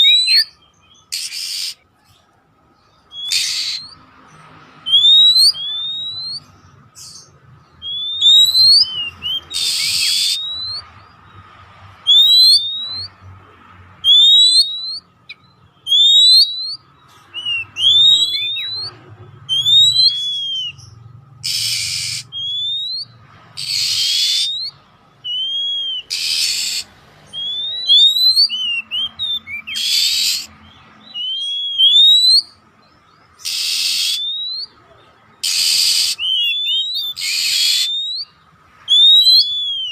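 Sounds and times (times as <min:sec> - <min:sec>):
bird whistling song: 0:00.0 - 0:13.3, 0:14.0 - 0:39.9
harsh rasping bird calls: 0:00.0 - 0:39.9.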